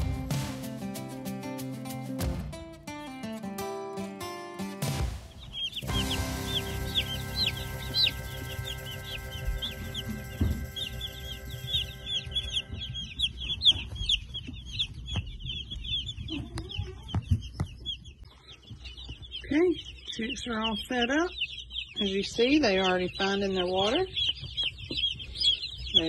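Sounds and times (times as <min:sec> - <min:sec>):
chicks peeping: 0:04.8 - 0:26.0.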